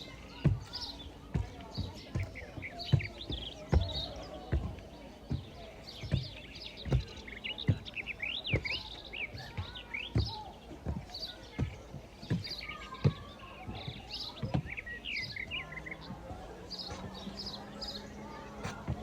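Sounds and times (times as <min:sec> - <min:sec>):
low dull thumps: 0:00.0 - 0:19.0
small birds chirping: 0:00.0 - 0:19.0.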